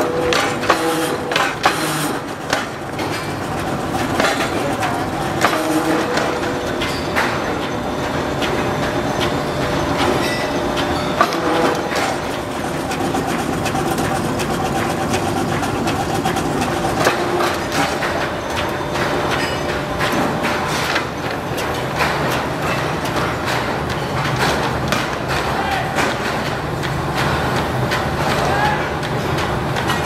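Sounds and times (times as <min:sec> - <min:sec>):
rolling mill clattering: 0:00.0 - 0:30.0.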